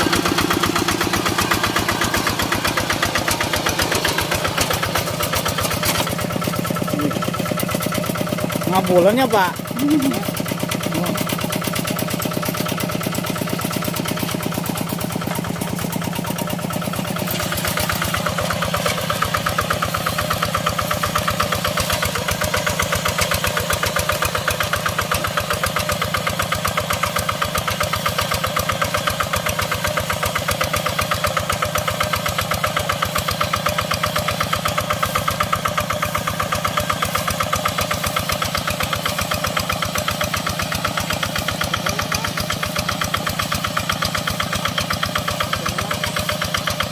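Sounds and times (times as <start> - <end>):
diesel engine thudding: 0.0 - 46.9.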